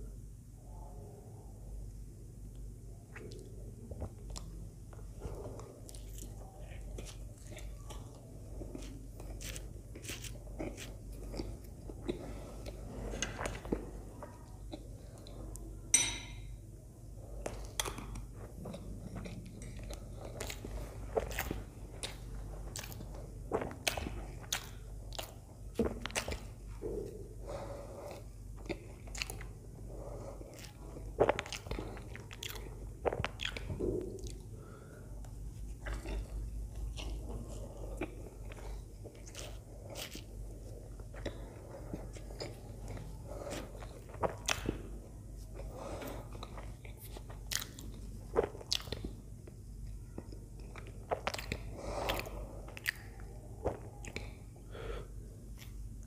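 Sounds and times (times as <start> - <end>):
person chewing food: 3.1 - 16.6, 17.2 - 56.0.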